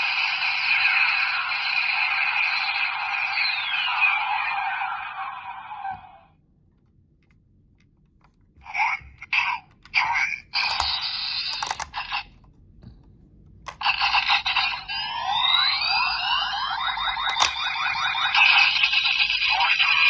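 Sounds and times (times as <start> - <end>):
toy electronic sound effects: 0.0 - 6.2, 8.6 - 12.3, 13.7 - 20.0.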